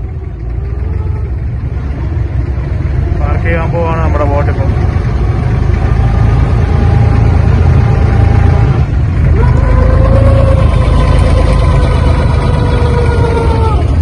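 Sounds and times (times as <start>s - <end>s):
boat diesel engine rumbling: 0.0s - 14.0s.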